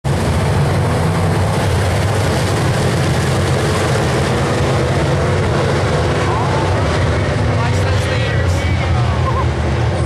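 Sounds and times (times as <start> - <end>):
race car engines roaring: 0.0 - 10.0.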